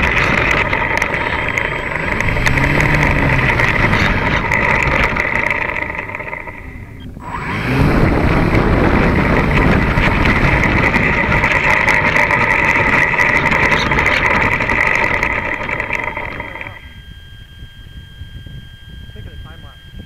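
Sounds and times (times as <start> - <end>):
model plane electric motor whining: 0.0 - 20.0.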